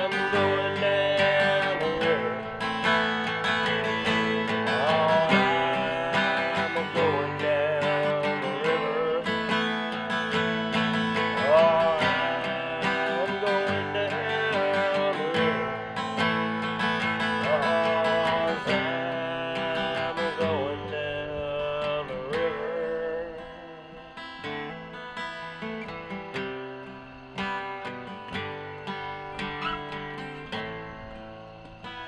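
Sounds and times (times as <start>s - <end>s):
acoustic guitar strumming and picking: 0.0s - 32.0s.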